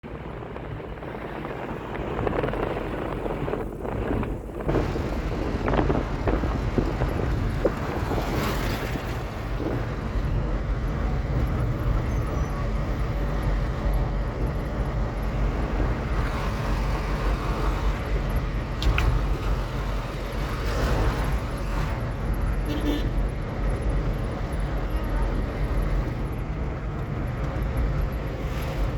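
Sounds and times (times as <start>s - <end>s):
car engine and road noise: 0.0s - 28.9s.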